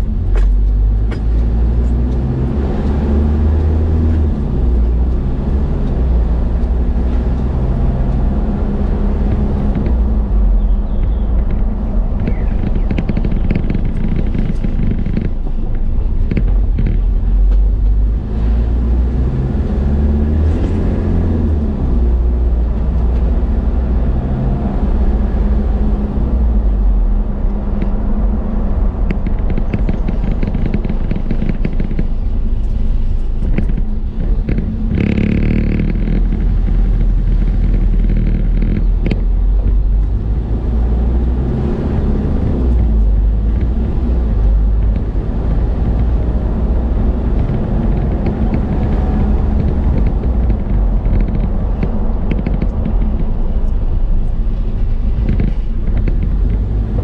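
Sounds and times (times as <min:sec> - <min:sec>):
light rattles and knocks: 0:00.0 - 0:18.2, 0:27.5 - 0:57.0
car engine and road rumble: 0:00.0 - 0:57.0.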